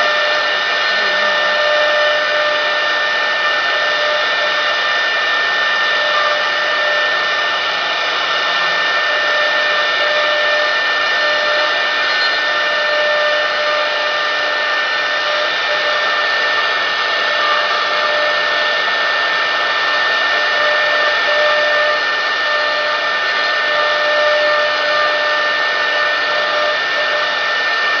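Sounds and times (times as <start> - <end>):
router spindle high-pitched whine: 0.0 - 28.0.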